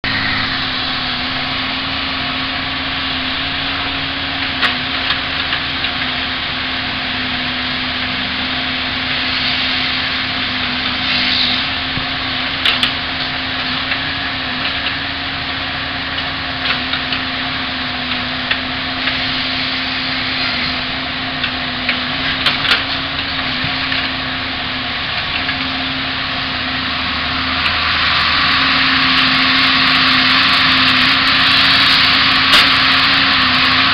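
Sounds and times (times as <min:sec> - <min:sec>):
diesel machinery engine drone: 0:00.0 - 0:33.9.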